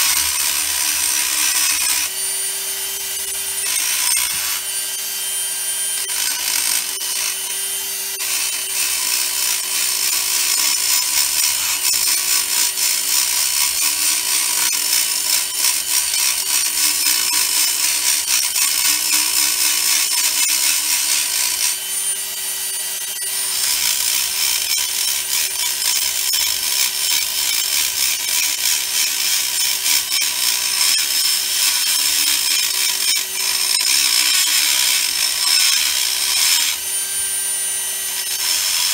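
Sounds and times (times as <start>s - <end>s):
rotary tool grinding metal: 0.0s - 38.9s.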